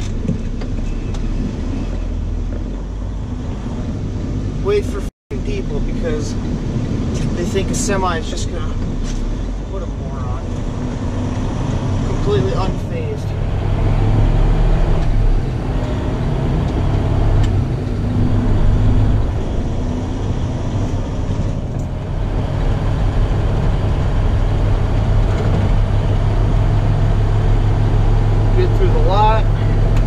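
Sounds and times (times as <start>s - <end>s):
truck diesel engine droning: 4.6s - 30.0s.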